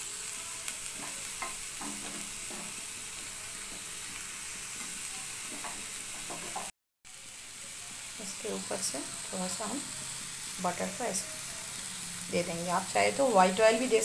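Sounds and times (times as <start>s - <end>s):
meat sizzling in frying pan: 0.0s - 14.0s.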